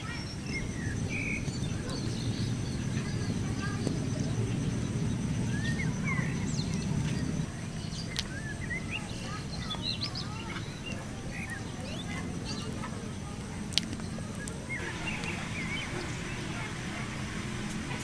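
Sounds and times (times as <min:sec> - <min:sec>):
low noise: 0:00.0 - 0:18.0
small birds chirping: 0:00.0 - 0:18.0.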